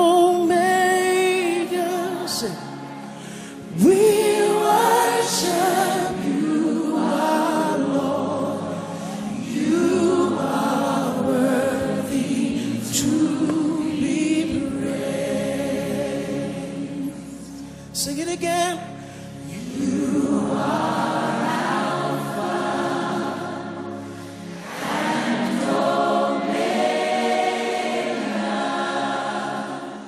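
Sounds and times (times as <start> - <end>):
gospel choir singing: 0.0 - 17.7, 19.4 - 30.0.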